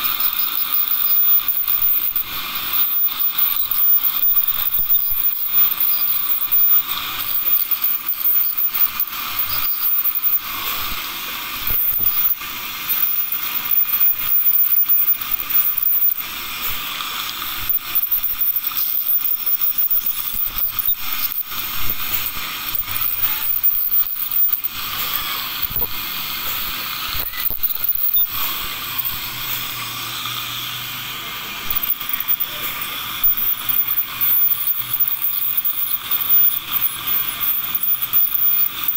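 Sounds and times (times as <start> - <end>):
dental scaler chattering on teeth: 0.0 - 30.6, 31.6 - 38.9
saliva ejector sucking hiss: 0.0 - 38.9.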